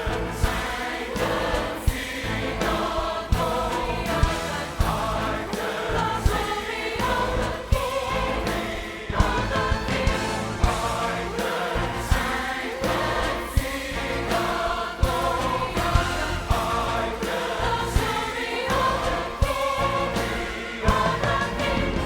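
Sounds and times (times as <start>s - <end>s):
large choir singing: 0.0s - 22.0s
musical accompaniment: 0.0s - 22.0s.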